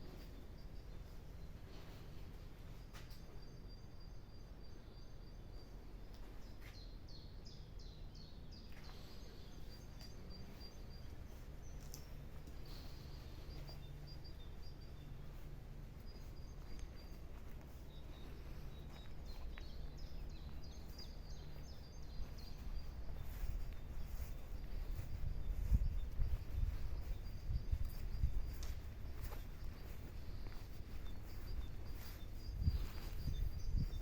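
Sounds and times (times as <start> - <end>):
faint bird chirps: 0.0 - 34.0.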